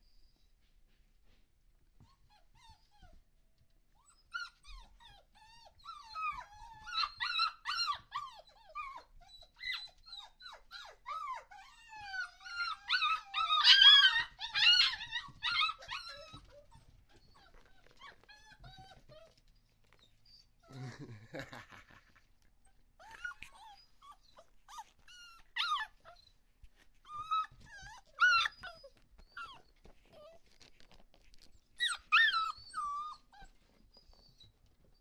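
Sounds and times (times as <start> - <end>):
puppies whining and yelping: 2.0 - 3.2, 3.9 - 20.8, 22.2 - 35.0.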